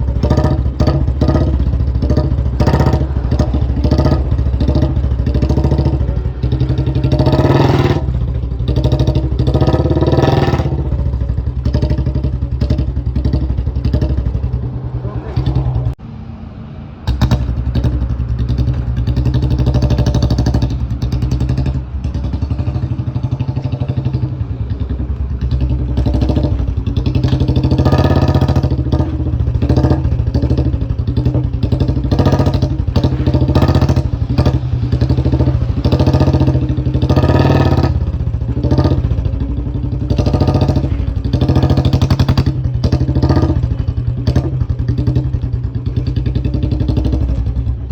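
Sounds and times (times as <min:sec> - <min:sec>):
motorcycle engine thumping and revving: 0:00.0 - 0:16.1, 0:17.0 - 0:47.9.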